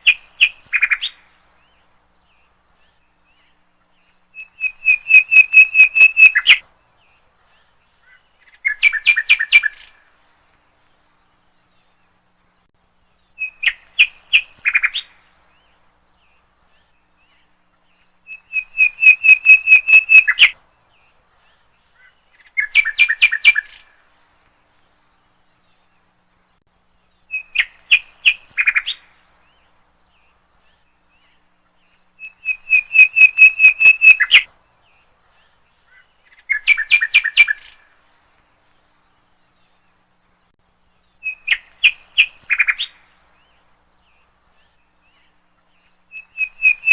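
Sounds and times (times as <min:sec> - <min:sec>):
bird chirps and trills: 0:00.0 - 0:10.2, 0:10.9 - 0:24.3, 0:24.9 - 0:38.2, 0:38.8 - 0:46.9.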